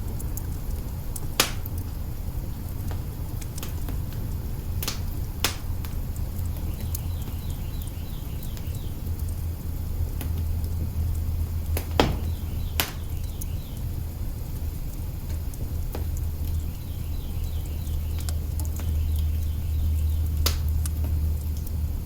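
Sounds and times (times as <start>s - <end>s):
log fire crackling and popping: 0.0s - 22.0s.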